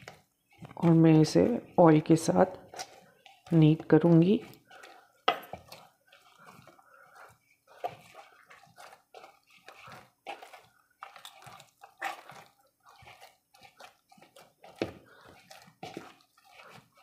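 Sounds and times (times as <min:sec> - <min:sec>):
dough squelching and slapping: 0:00.0 - 0:17.0.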